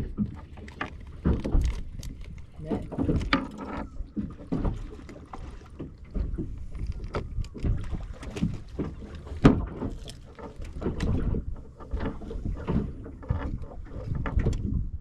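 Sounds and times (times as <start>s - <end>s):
water slapping boat hull: 0.0s - 15.0s.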